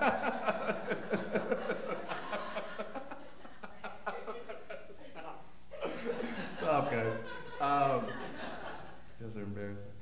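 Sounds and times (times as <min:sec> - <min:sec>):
audience laughing: 0:00.0 - 0:05.0, 0:05.8 - 0:09.0.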